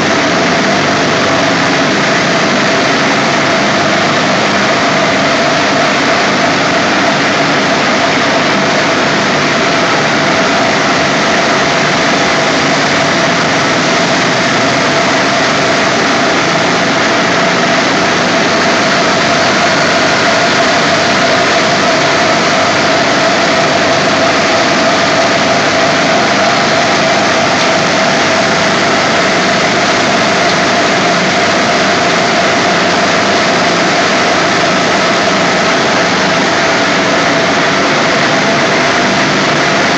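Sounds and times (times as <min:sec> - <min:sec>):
air compressors running: 0:00.0 - 0:39.9
steady machine tone: 0:00.0 - 0:39.9.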